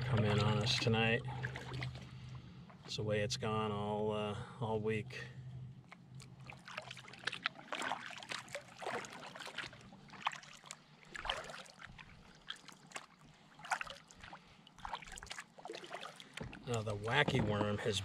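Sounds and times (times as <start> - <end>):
paddle dipping into water: 0.0 - 2.9, 5.9 - 18.0
water dripping off paddle blades: 0.0 - 2.9, 5.8 - 18.0.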